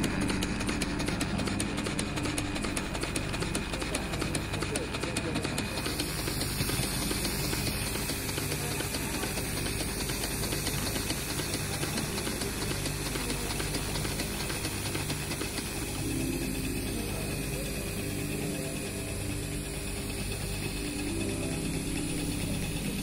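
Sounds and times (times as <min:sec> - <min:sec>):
fast mechanical ticking: 0:00.0 - 0:23.0
steam engine hissing: 0:00.0 - 0:23.0.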